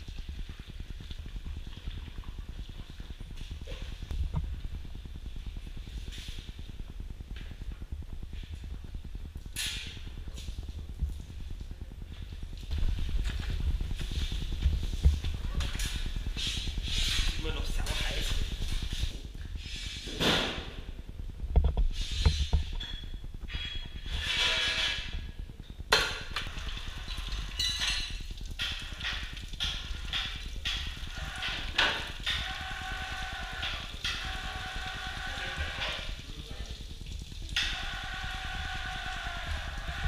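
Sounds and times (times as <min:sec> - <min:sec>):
steady hum: 0:00.0 - 0:40.0.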